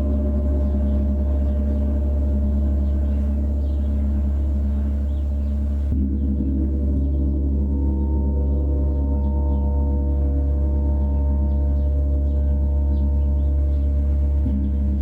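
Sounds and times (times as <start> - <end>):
gong ringing drone: 0.0 - 15.0.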